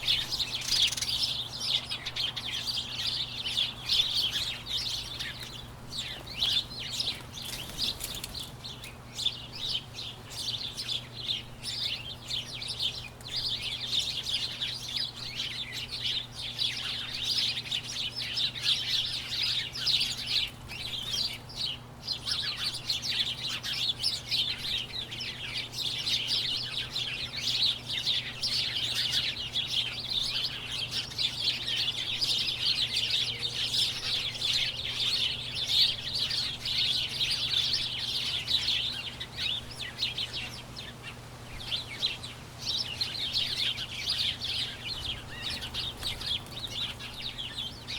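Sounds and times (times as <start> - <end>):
flock of birds chirping: 0.0 - 47.9.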